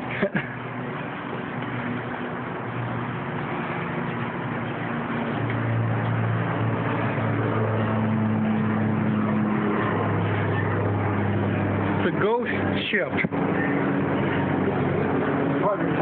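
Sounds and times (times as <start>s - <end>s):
low engine hum: 0.0s - 16.0s
noisy background: 0.0s - 16.0s.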